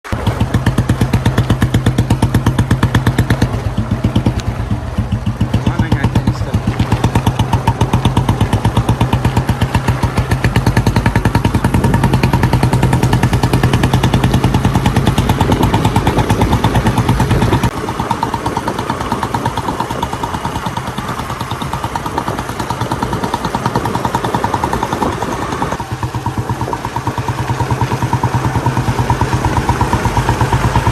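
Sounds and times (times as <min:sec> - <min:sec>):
motorcycle engine idling: 0:00.1 - 0:30.9.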